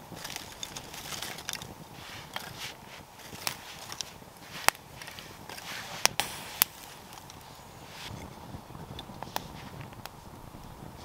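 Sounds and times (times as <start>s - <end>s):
campfire crackling: 0.0s - 11.0s
fire pops: 0.0s - 11.0s.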